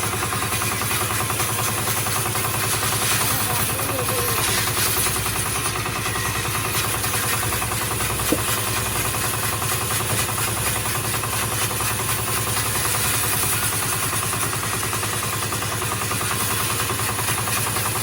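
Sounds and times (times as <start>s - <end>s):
workshop machine running: 0.0s - 18.0s.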